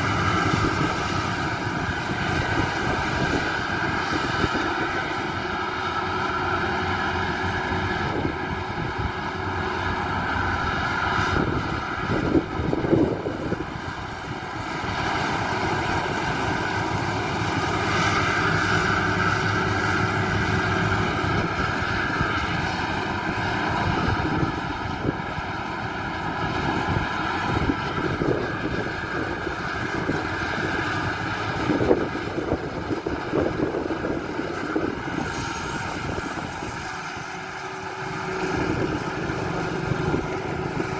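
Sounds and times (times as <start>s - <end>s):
combine harvester running: 0.0s - 40.9s
loud irregular noise: 0.0s - 40.9s.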